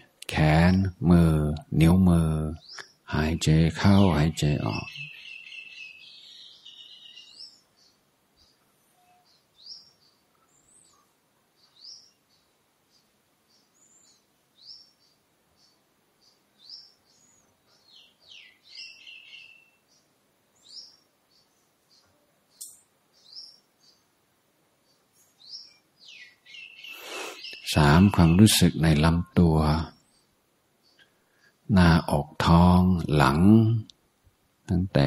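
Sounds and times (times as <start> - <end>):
birds chirping: 0.0 - 34.0
longer steady bird call: 0.0 - 34.0.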